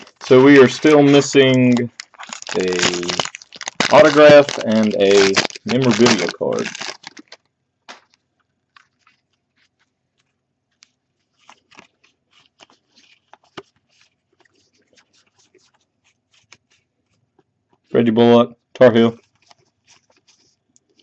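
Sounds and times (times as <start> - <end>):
trading cards clicking and rustling: 0.0 - 16.8.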